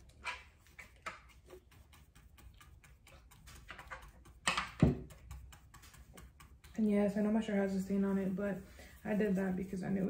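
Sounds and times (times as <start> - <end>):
light taps and clicks of painting: 0.0 - 10.0.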